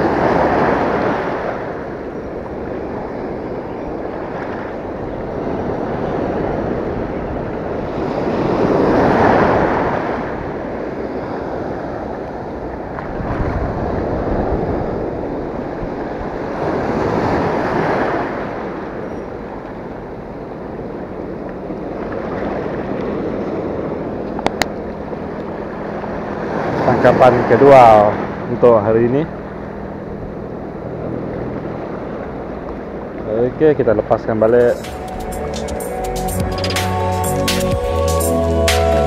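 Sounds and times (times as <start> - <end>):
surf washing over rocks: 0.0 - 34.8.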